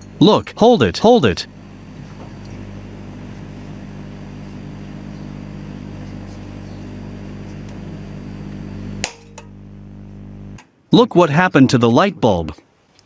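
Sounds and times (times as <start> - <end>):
electrical hum and buzz: 0.0 - 12.6.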